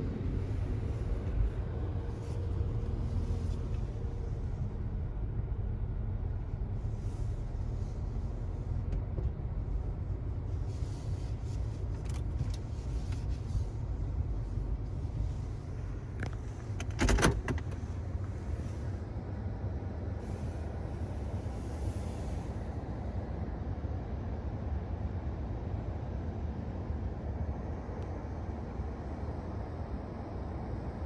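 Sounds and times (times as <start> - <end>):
car engine rumble inside cabin: 0.0 - 31.0.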